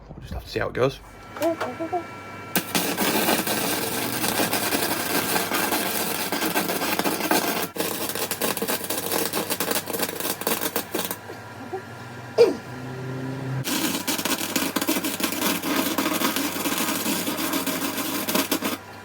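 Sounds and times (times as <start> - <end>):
welder arc crackling: 1.2 - 11.4, 13.6 - 19.0.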